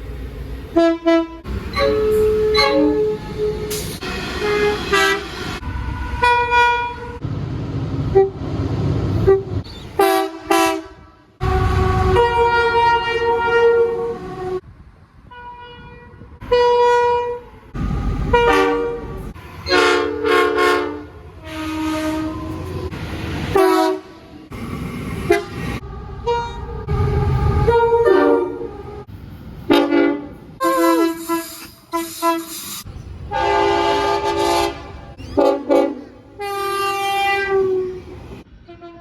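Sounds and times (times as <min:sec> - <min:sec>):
low rumble of moving trains: 0:00.0 - 0:39.0
locomotive air horn blasts: 0:00.7 - 0:07.2, 0:08.1 - 0:08.4, 0:09.1 - 0:14.6, 0:15.3 - 0:17.7, 0:18.3 - 0:22.9, 0:23.5 - 0:24.4, 0:25.3 - 0:29.1, 0:29.7 - 0:38.1, 0:38.7 - 0:39.0.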